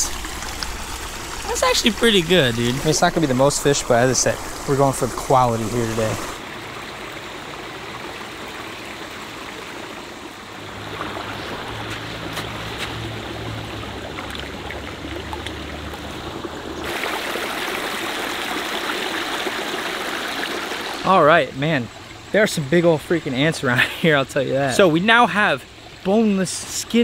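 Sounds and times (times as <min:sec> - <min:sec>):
water running over rocks: 0:00.0 - 0:27.0.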